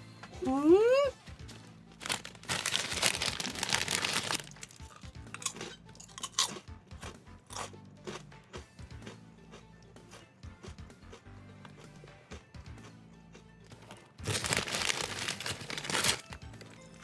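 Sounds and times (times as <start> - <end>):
quiet background music: 0.0 - 17.0
chips crunching while chewed: 2.0 - 17.0.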